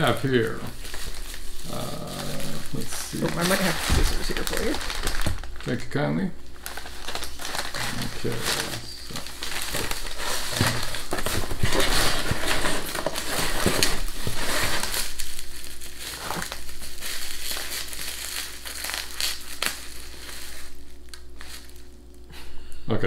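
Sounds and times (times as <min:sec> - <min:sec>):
packaging rustling and crackling: 0:00.0 - 0:22.3.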